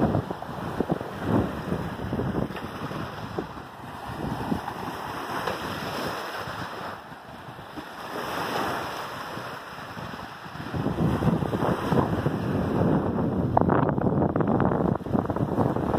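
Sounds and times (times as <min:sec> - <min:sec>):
small waves on beach: 0:00.0 - 0:15.9
wind gusting on microphone: 0:00.0 - 0:15.9.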